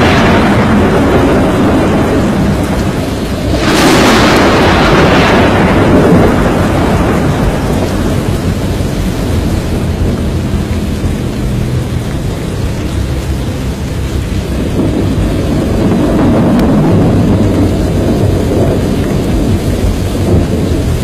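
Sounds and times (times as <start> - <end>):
rain: 0.0 - 21.0
wind: 0.0 - 21.0.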